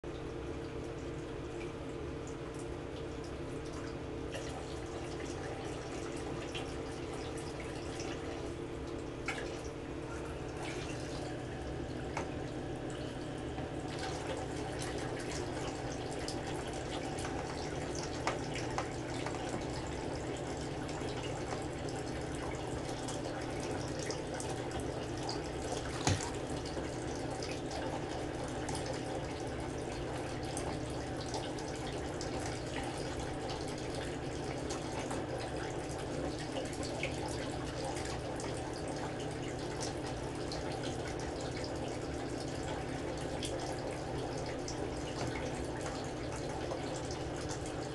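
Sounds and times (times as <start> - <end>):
faint steady hum: 0.0 - 47.9
water running into a bathtub: 0.0 - 47.9.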